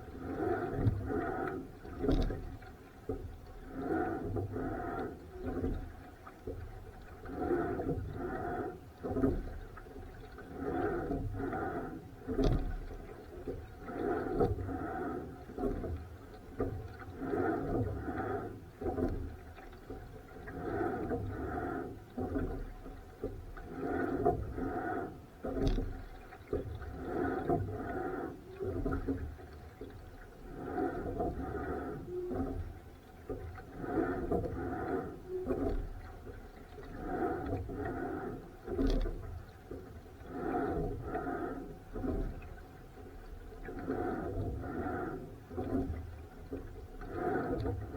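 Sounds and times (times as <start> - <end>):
water splashing and sloshing: 0.0 - 47.9.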